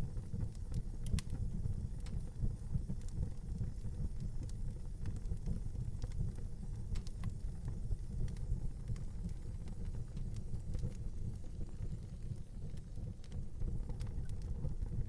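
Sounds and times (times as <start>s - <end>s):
fire crackles and pops: 0.0s - 15.0s
fire low rumble: 0.0s - 15.0s.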